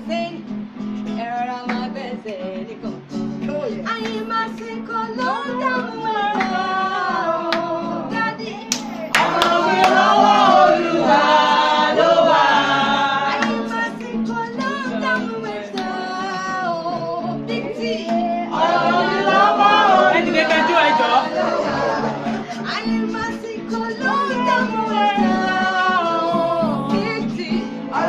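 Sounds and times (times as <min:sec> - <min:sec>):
acoustic guitar: 0:00.0 - 0:28.0
woman singing: 0:00.0 - 0:28.0.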